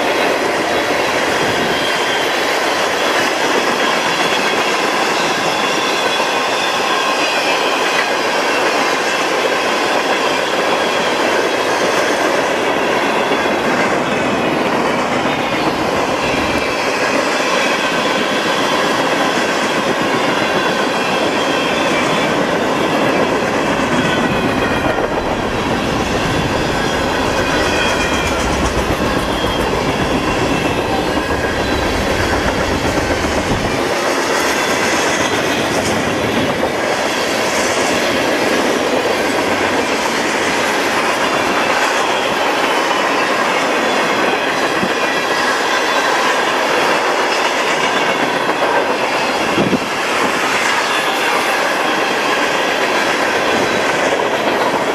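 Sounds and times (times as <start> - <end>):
train wheels clacking on rail joints: 0.0 - 54.9.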